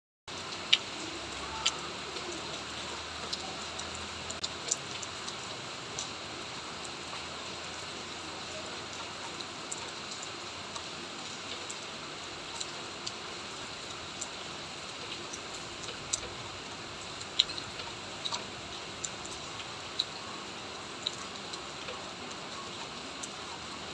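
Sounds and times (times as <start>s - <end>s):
raindrops ticking close by: 0.3s - 23.9s
steady rain falling: 0.3s - 23.9s.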